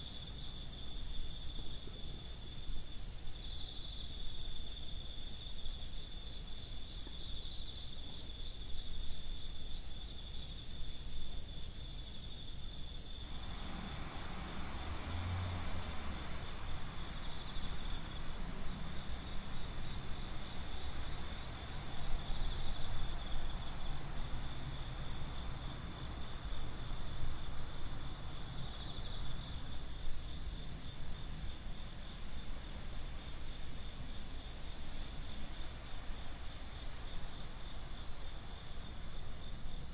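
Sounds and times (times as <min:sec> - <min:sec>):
crickets chirping: 0:00.0 - 0:39.9
faint low background noise: 0:00.0 - 0:39.9.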